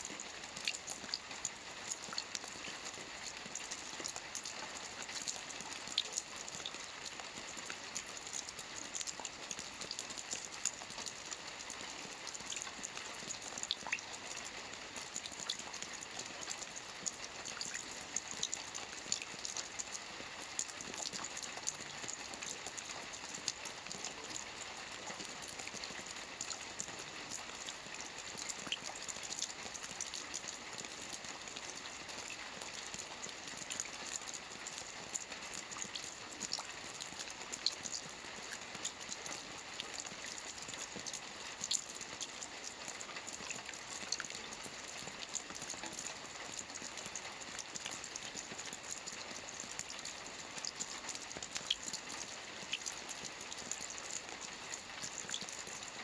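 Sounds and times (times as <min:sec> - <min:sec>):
rain on a roof: 0:00.0 - 0:56.0.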